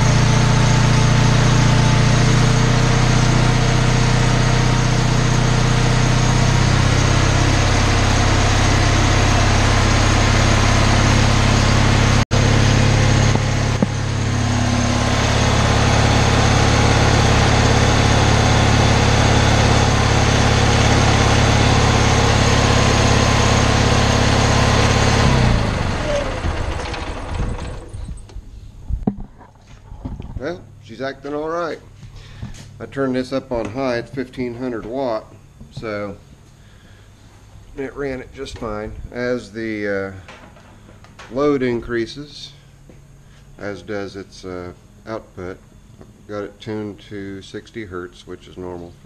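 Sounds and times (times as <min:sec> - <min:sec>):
generator engine running: 0:00.0 - 0:49.0.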